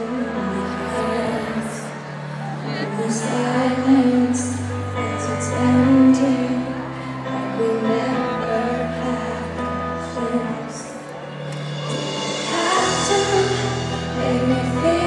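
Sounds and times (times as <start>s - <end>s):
live pop music with singing: 0.0s - 15.0s.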